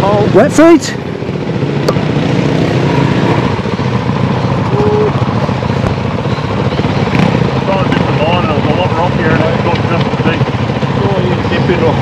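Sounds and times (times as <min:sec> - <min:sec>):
dirt bike engines idling: 0:00.0 - 0:12.0.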